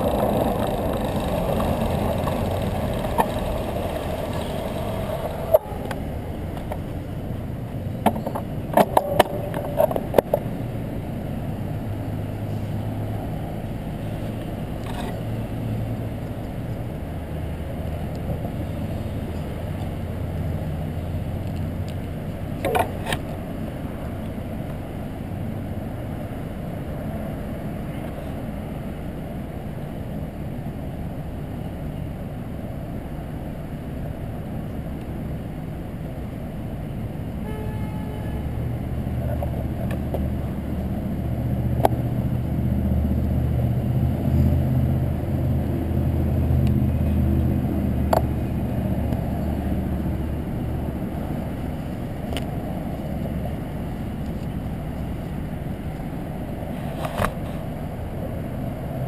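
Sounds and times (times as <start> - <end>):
motor traffic passing: 0.0 - 29.4, 33.0 - 59.0
bicycle road noise: 0.0 - 59.0.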